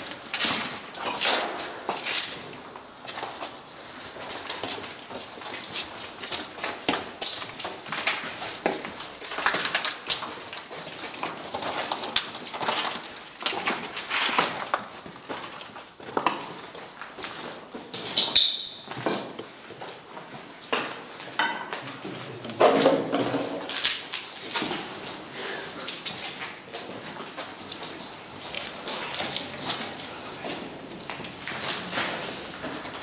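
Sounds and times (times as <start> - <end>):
footsteps crunching over debris: 0.0 - 17.9, 23.1 - 33.0.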